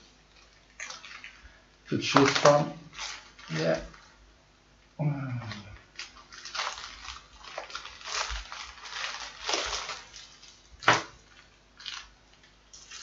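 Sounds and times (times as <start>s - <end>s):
plastic bag tearing: 0.0s - 4.2s, 5.4s - 13.0s
plastic bag crinkling: 0.0s - 4.3s, 5.4s - 13.0s.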